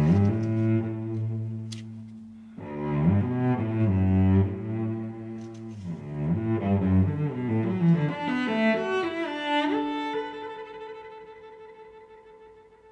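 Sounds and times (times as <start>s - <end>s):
instrumental music: 0.0s - 12.9s.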